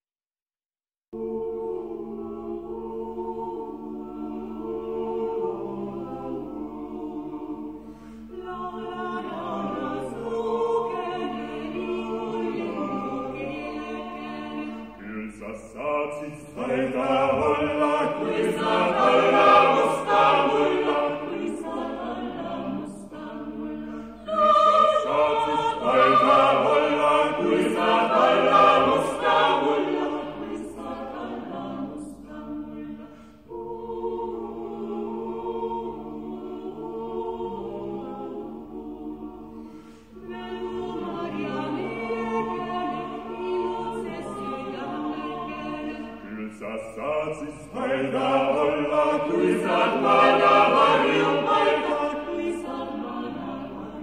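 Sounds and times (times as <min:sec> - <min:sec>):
vocal ensemble singing in harmony: 0:01.2 - 0:54.0.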